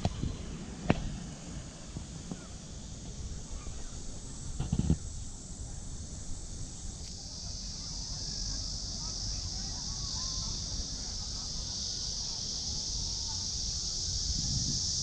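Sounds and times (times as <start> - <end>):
high-pitched insect chorus: 0.0 - 15.0
low outdoor rumble: 0.0 - 15.0.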